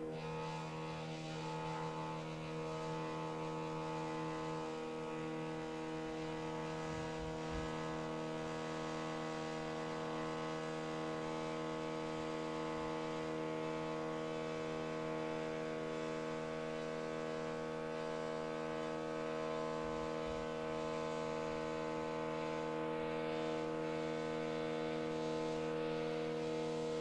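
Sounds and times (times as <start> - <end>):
stepper motor buzzing hum: 0.0 - 27.0.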